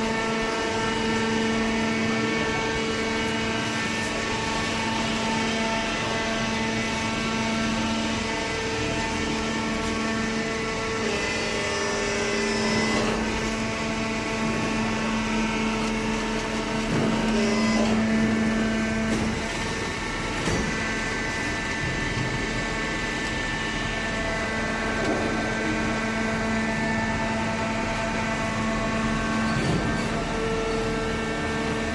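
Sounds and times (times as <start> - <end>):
baler motor humming whine: 0.0 - 31.9.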